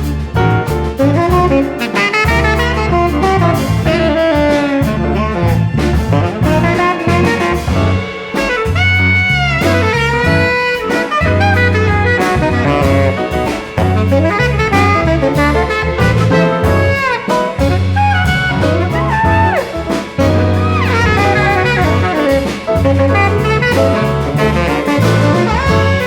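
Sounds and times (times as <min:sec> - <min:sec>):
jazz-funk ensemble playing: 0:00.0 - 0:26.0
tenor saxophone: 0:00.0 - 0:26.0.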